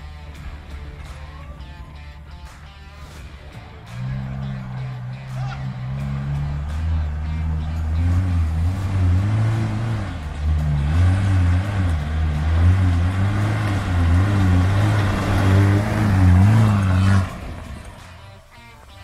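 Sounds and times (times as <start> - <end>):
truck engine revving hard: 2.4 - 18.5.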